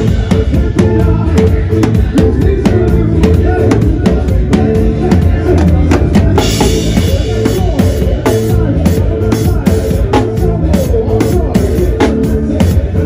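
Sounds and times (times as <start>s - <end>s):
drum hits: 0.0s - 12.9s
live band playing: 0.0s - 13.0s.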